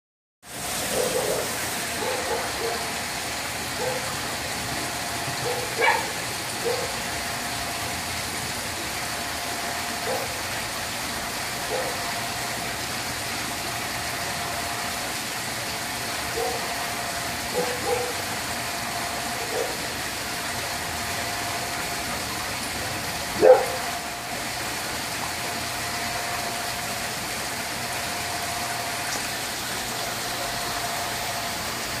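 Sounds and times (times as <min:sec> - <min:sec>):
steady mechanical hum: 0:00.4 - 0:32.0.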